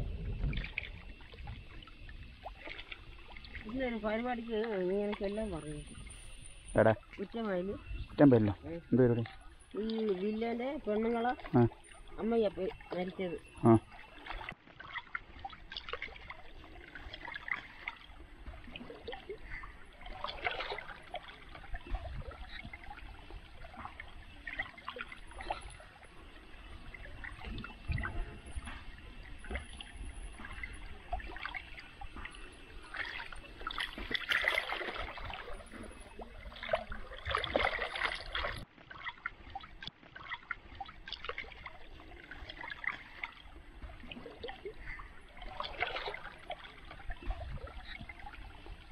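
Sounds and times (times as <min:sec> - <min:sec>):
muddy water splashing: 0:00.0 - 0:06.2, 0:06.8 - 0:48.9.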